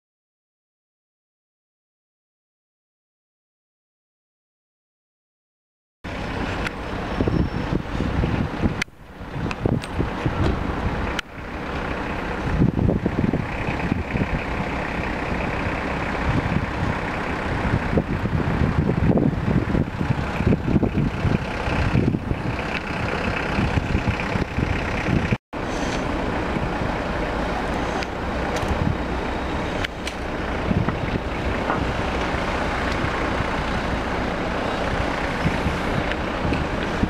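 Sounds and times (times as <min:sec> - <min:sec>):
steady outdoor rushing noise: 0:06.1 - 0:37.0
wind buffeting microphone: 0:06.1 - 0:37.0.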